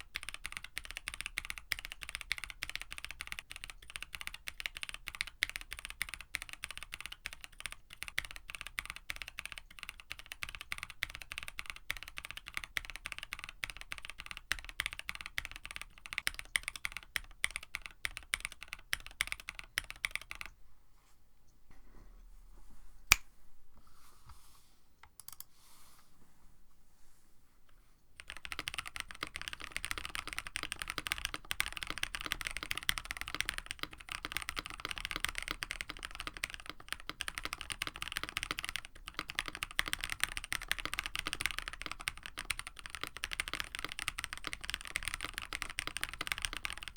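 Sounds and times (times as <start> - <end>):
fast typing on mechanical keyboard: 0.0 - 20.5, 28.2 - 46.9.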